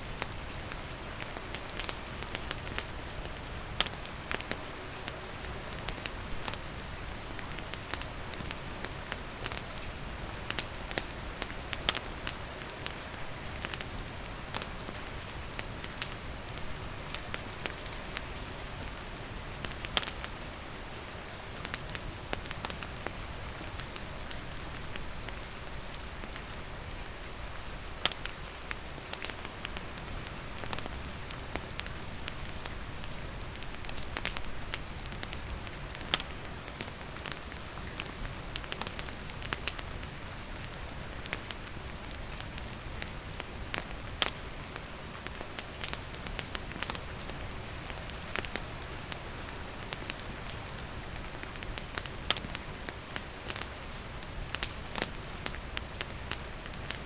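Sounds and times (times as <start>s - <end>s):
rain pattering: 0.0s - 57.0s
campfire crackling and popping: 0.1s - 27.0s, 27.8s - 57.0s.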